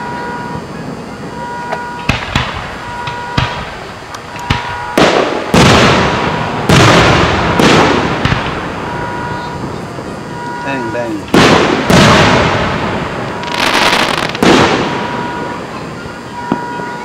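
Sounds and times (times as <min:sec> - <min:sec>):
firework booms with echoes: 0:00.0 - 0:17.0
firework sharp cracks: 0:01.7 - 0:16.9.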